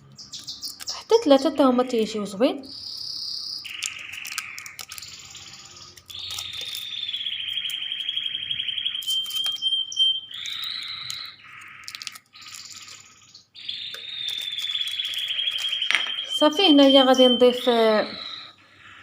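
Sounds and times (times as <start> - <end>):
songbird trilling: 2.6 - 19.0.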